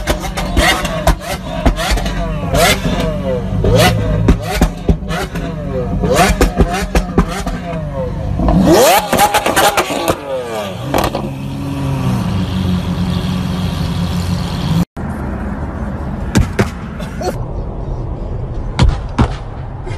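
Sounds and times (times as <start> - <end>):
car engine with loud exhaust: 0.0 - 19.9.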